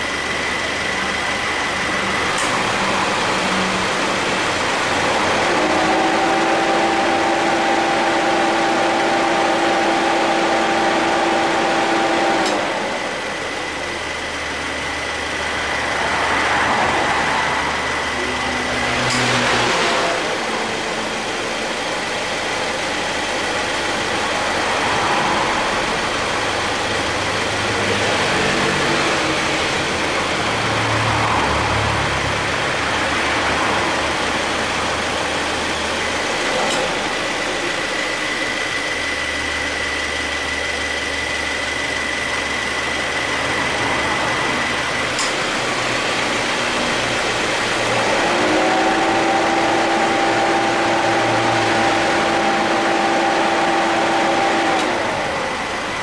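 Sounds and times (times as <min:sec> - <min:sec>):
air-conditioning compressor running: 0:00.0 - 0:56.0
car engine idling: 0:00.0 - 0:56.0
steady whine: 0:00.0 - 0:56.0.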